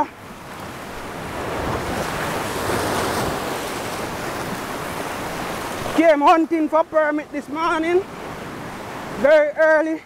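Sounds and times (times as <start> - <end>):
surf breaking on rocks: 0.0 - 10.0.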